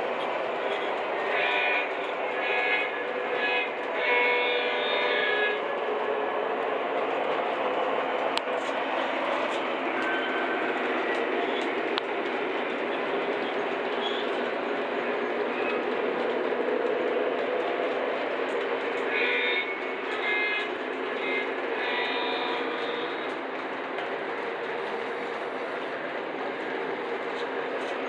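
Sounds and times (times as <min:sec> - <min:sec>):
model train rumbling on track: 0:00.0 - 0:28.0.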